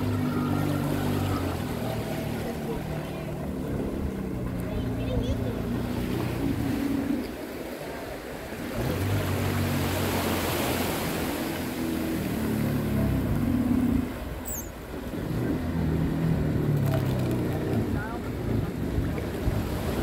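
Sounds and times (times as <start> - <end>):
jet ski engine running: 0.0 - 20.0
small waves washing: 0.0 - 20.0.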